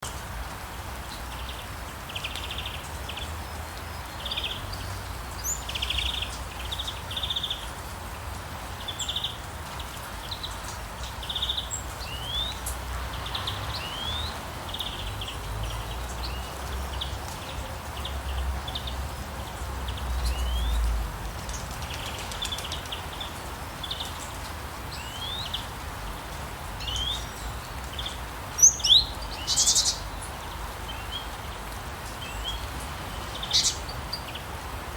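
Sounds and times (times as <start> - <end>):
birds singing: 1.1 - 7.7, 8.7 - 34.6.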